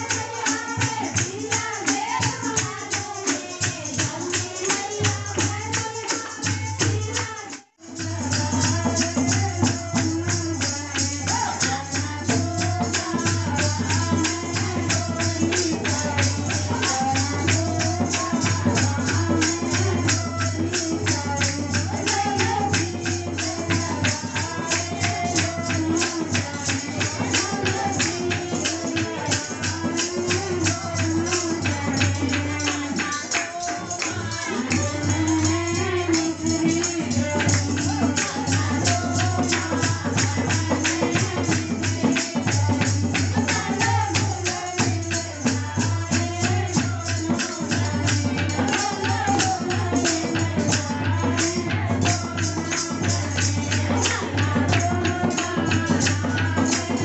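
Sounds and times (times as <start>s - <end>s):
jingling hand percussion: 0.0s - 57.0s
women singing a devotional song: 0.0s - 57.0s.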